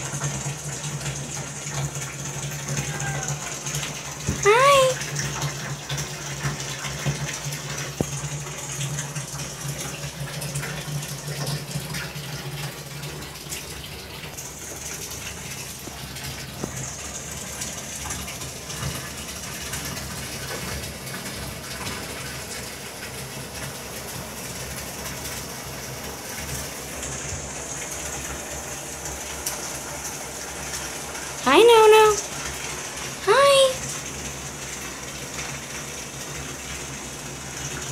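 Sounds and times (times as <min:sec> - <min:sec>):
water running from a tap: 0:00.0 - 0:37.9.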